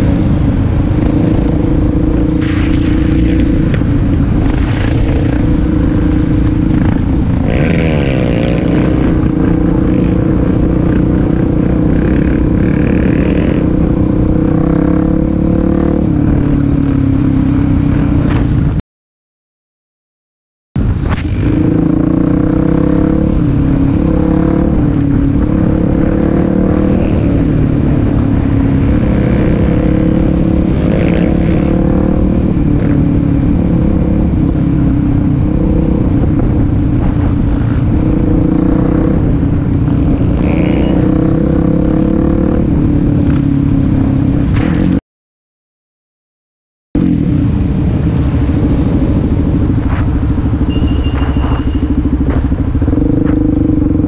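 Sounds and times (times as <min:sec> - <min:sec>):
motorcycle engine cruising: 0:00.0 - 0:18.8, 0:20.8 - 0:45.0, 0:47.0 - 0:54.0
wind rush: 0:00.0 - 0:18.8, 0:20.8 - 0:44.9, 0:47.0 - 0:54.0.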